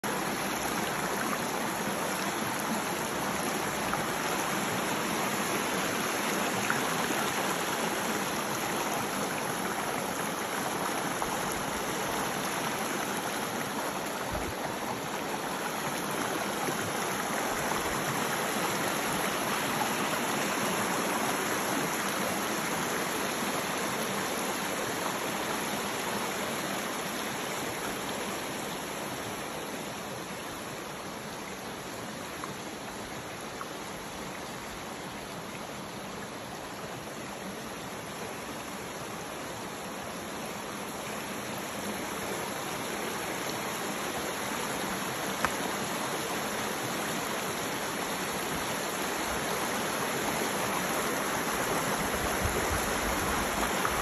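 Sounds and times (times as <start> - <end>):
creek running over rocks: 0.0 - 54.0.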